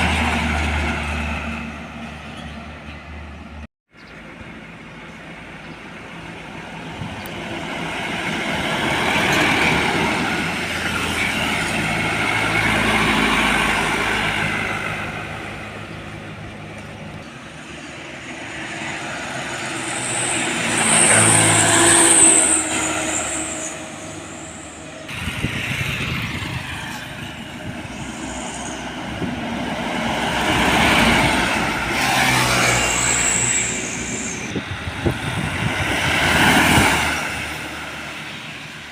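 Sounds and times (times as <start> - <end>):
heavy trucks driving past: 0.0 - 38.9.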